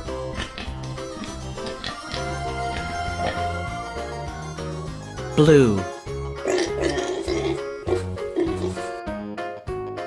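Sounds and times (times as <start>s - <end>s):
children's background music: 0.0s - 10.0s.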